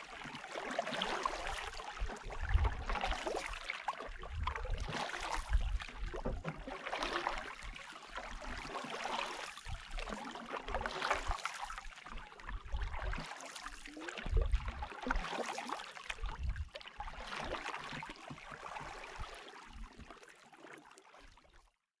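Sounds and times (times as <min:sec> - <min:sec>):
paddles splashing in water: 0:00.0 - 0:21.1.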